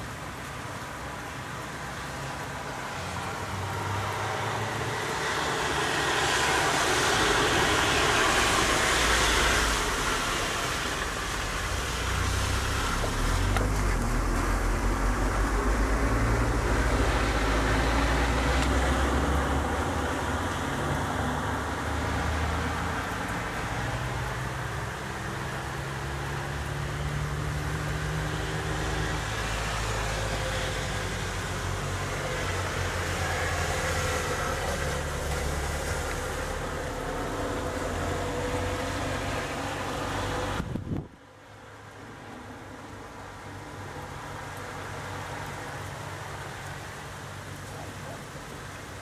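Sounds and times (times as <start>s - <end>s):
heavy rain falling: 0.0s - 49.0s.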